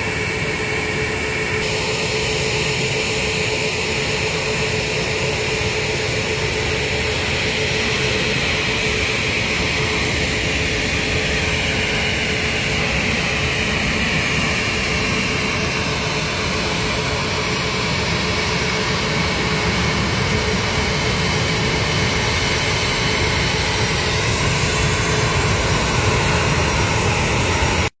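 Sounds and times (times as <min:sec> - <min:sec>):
high engine whine: 0:00.0 - 0:27.9
jet airliner engines running: 0:00.0 - 0:28.0.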